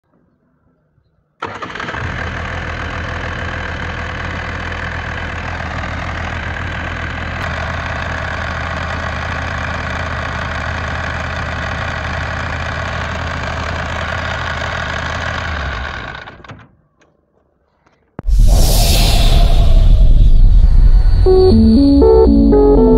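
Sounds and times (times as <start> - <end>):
diesel generator running: 1.4 - 16.5, 18.5 - 22.9.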